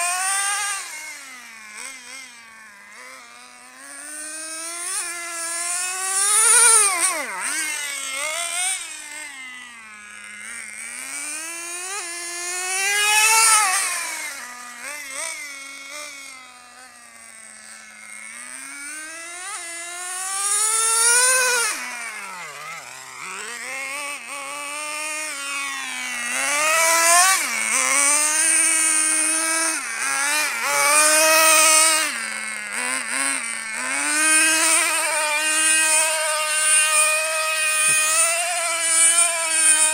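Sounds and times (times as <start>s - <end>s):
remote control car motor whine: 0.0s - 39.9s.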